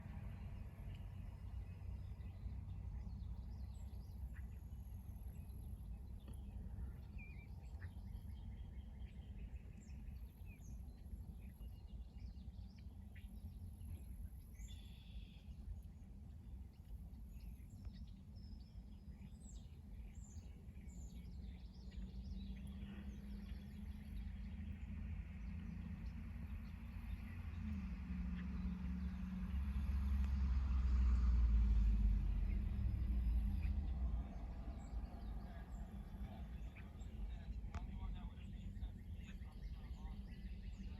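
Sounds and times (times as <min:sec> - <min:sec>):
broad noise with low hum: 0:00.0 - 0:40.9
small birds chirping: 0:00.0 - 0:40.9
steady low rumble: 0:00.0 - 0:40.9.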